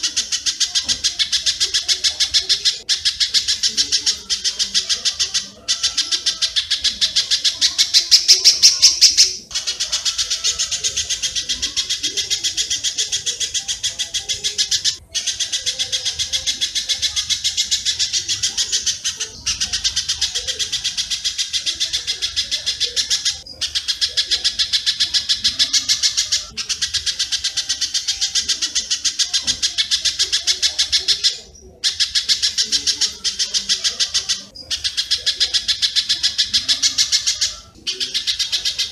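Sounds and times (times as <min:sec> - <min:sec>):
rapid high bird chirps: 0:00.0 - 0:38.9.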